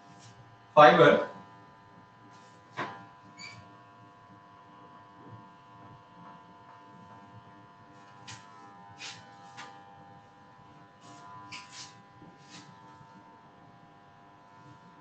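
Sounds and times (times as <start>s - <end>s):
faint electrical buzz: 0.0s - 15.0s.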